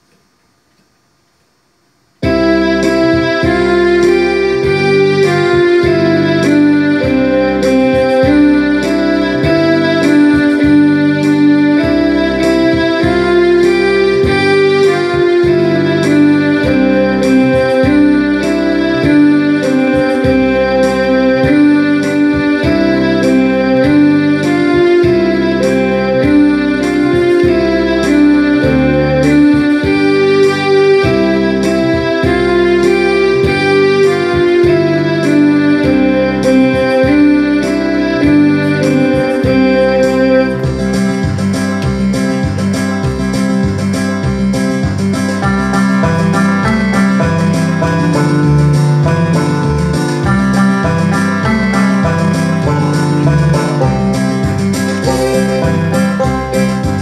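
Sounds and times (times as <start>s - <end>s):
electronic keyboard melody: 2.2s - 57.0s
programmed beat and bass: 2.2s - 57.0s.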